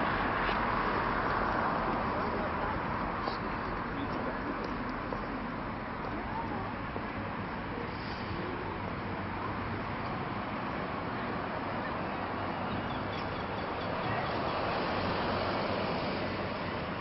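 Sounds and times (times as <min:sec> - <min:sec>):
hum of passing traffic: 0:00.0 - 0:17.0.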